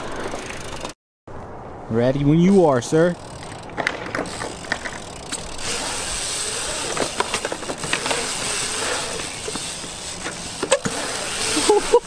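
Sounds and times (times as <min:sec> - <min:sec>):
bike tyres rolling on concrete: 0:00.0 - 0:12.0.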